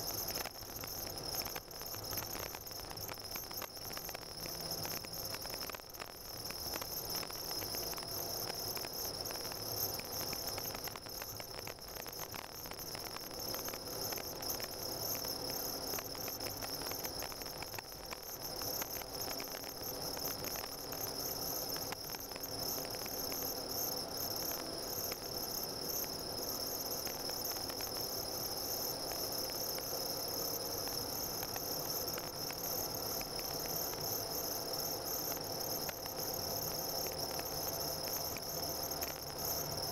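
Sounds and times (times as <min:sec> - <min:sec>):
high-pitched whine: 0:00.0 - 0:39.9.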